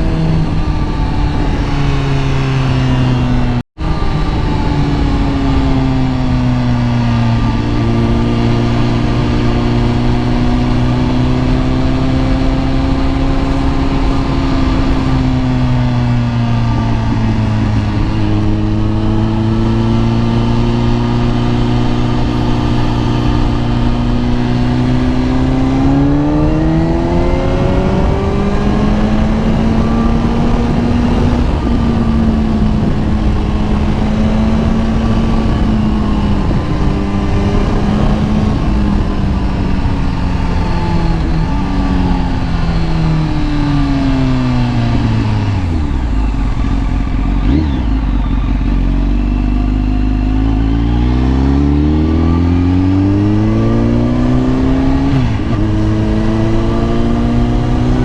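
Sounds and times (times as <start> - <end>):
motorcycle engine running: 0.0 - 58.0
wind noise: 0.0 - 58.0.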